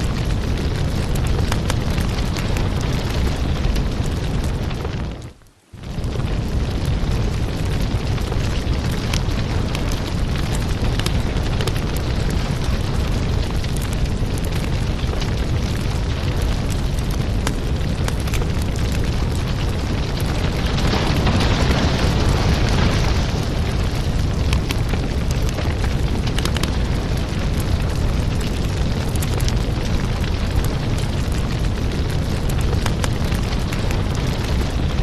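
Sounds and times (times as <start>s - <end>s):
firewood burning with crackles: 0.0s - 35.0s.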